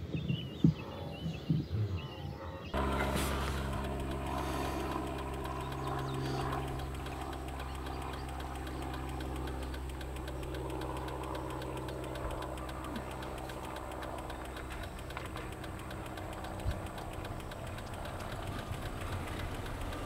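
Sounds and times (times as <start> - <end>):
engine idling: 2.7 - 20.0
fast even ticking: 2.8 - 20.0.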